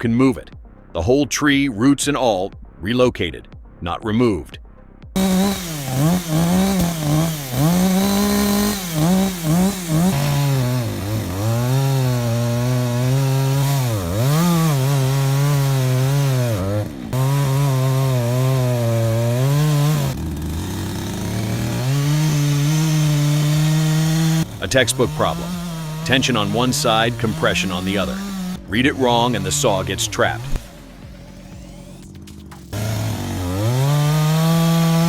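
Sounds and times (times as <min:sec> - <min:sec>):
chainsaw revving and cutting wood: 0:05.2 - 0:35.0.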